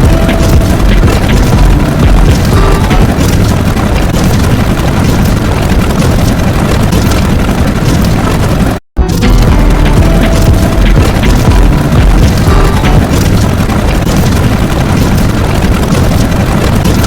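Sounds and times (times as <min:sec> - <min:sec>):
loud distorted rumbling noise: 0:00.0 - 0:17.0.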